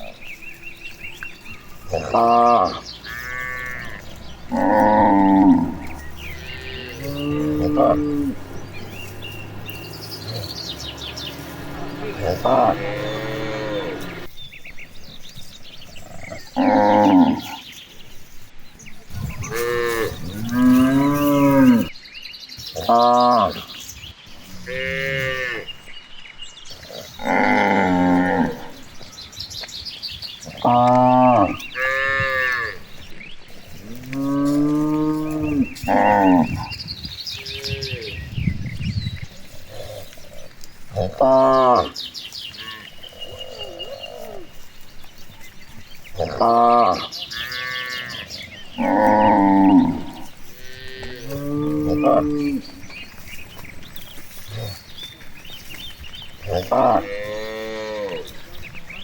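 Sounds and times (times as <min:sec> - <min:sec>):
cows mooing: 0:00.8 - 0:14.3, 0:15.9 - 0:17.7, 0:19.2 - 0:21.9, 0:24.4 - 0:25.8, 0:26.8 - 0:29.0, 0:30.4 - 0:38.3, 0:39.5 - 0:59.0.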